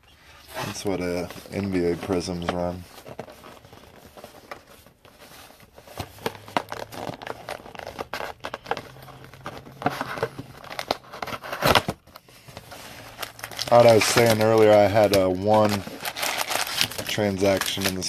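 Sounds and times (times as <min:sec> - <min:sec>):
plastic wrapping crinkling and tearing: 0:00.3 - 0:18.0.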